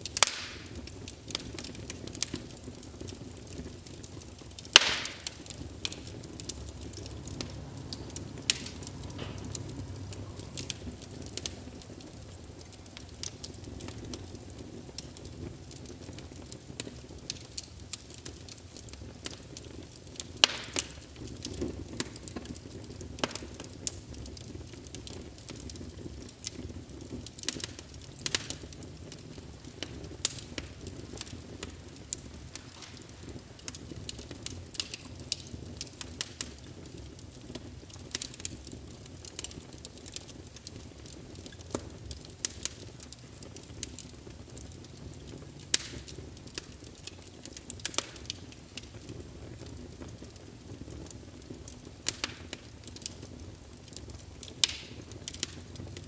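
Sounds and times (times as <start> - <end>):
fire crackles and pops: 0.0 - 56.0
fire flames rushing: 0.0 - 56.0.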